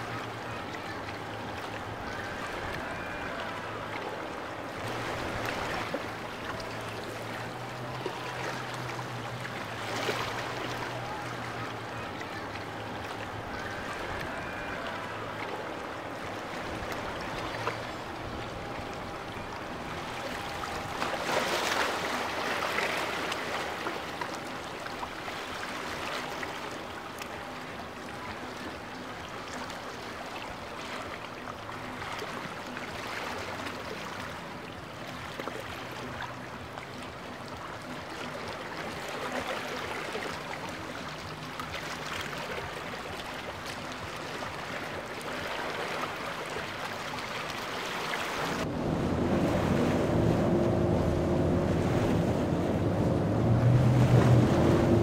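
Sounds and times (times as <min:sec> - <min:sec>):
faint boat engine hum: 0:00.0 - 0:55.0
waves rushing and splashing: 0:00.0 - 0:55.0.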